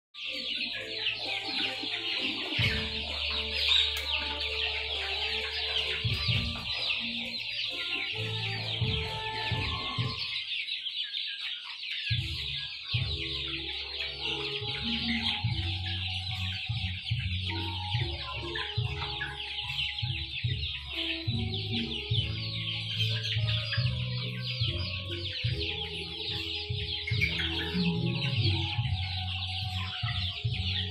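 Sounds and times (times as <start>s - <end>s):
chicks peeping and clucking: 0.2s - 30.9s.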